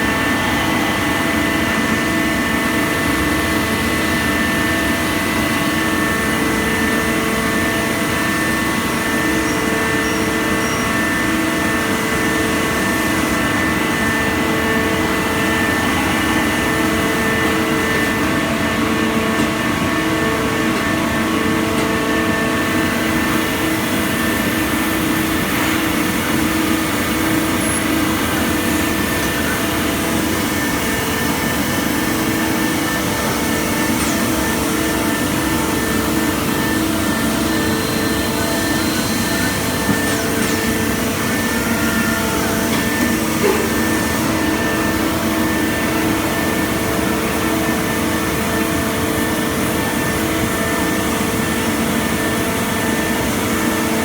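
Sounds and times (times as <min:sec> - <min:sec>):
lathe machine hum and hiss: 0:00.0 - 0:54.0.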